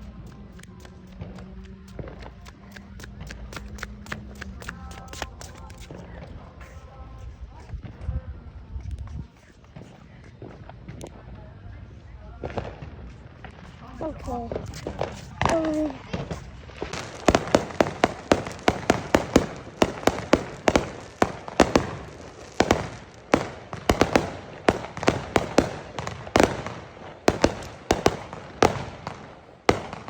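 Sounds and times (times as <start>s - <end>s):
fireworks cracking and banging: 0.0s - 8.2s, 9.3s - 30.0s.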